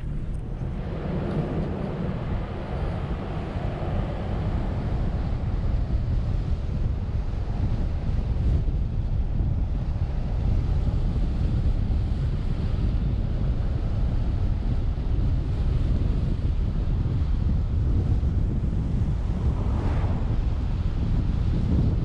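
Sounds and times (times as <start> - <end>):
vehicle driving on highway: 0.0 - 22.0
wind buffeting microphone: 0.0 - 22.0.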